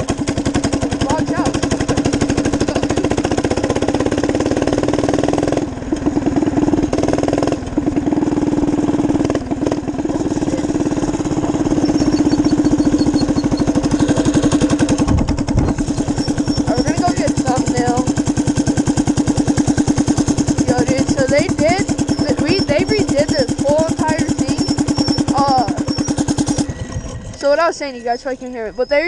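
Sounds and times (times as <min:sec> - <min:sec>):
small engine running under throttle: 0:00.0 - 0:29.0.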